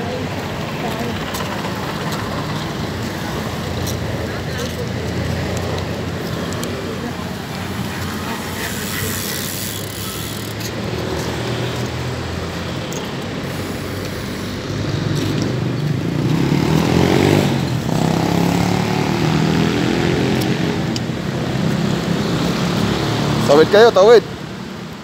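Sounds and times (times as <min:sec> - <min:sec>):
vehicle engine passing close: 0:00.0 - 0:23.7
city street traffic: 0:00.0 - 0:25.0.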